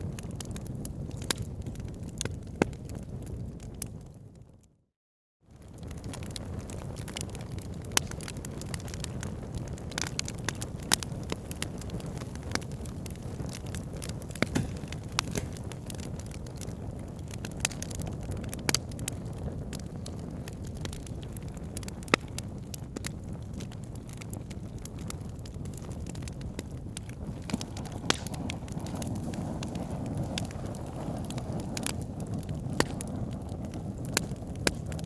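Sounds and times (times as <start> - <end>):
fire crackling and popping: 0.0 - 4.7, 5.5 - 35.0
fire flames rumbling: 0.0 - 4.7, 5.5 - 35.0.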